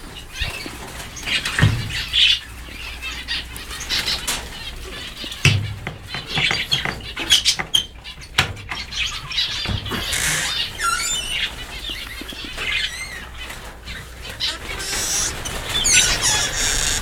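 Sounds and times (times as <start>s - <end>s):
finches chirping and calling: 0.1s - 17.0s.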